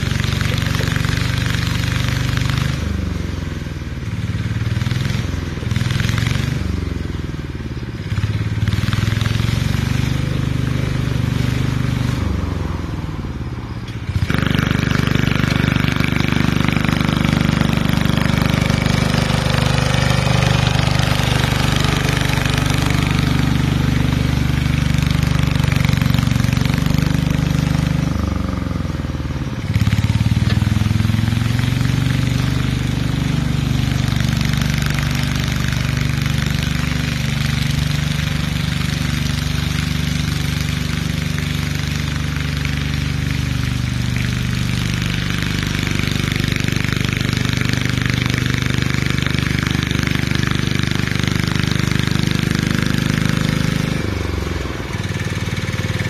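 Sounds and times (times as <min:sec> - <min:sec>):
diesel mower engine under load: 0:00.0 - 0:56.0.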